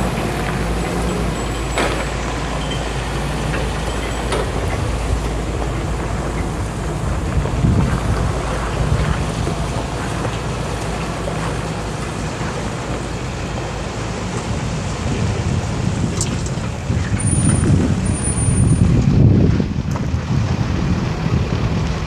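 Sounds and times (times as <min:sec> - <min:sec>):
diesel engine running: 0:00.0 - 0:22.0
wind rumbling on microphone: 0:00.0 - 0:22.0.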